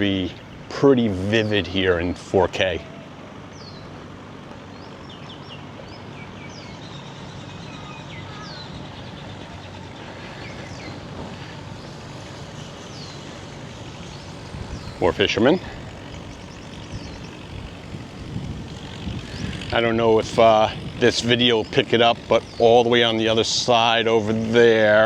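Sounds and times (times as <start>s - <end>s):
birds chirping: 0.0s - 25.0s
distant engine droning: 0.0s - 25.0s.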